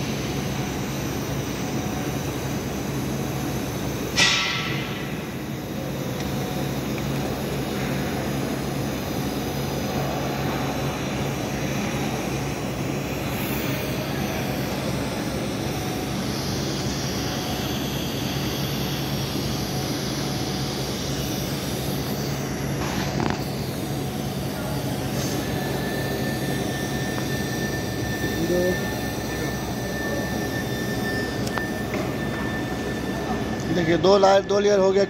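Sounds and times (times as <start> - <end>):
welding arc hissing: 0.0 - 34.0.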